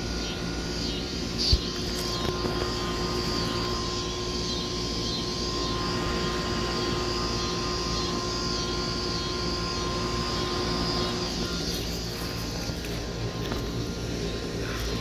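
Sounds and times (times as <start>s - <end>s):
air conditioner units droning: 0.0s - 15.0s
steady whine: 0.0s - 15.0s.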